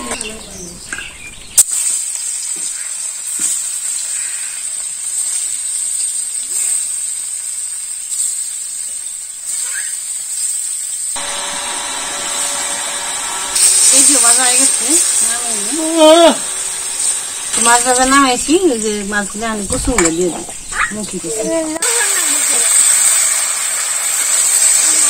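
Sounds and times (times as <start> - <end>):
fish frying in hot oil: 1.3 - 25.0.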